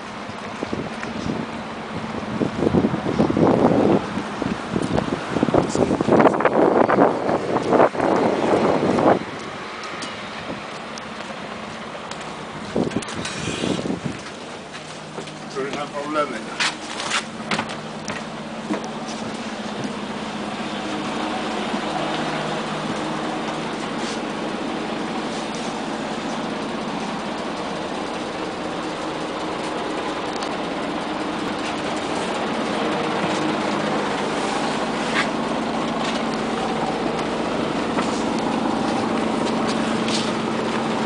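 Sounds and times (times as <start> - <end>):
bus engine and road noise: 0.0 - 41.0.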